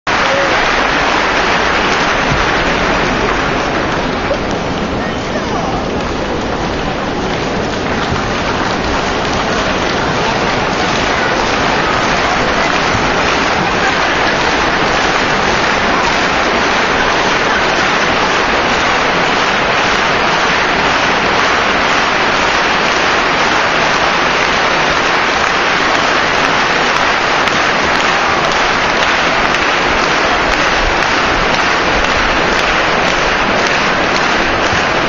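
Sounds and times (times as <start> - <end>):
stadium crowd applauding: 0.0 - 35.0.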